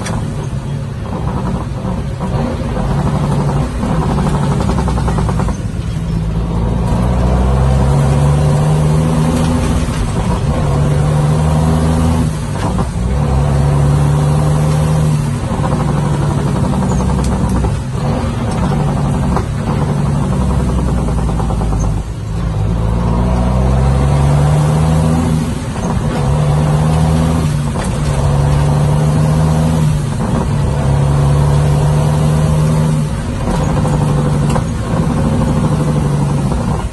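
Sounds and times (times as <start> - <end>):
diesel truck engine under load: 0.0 - 36.9.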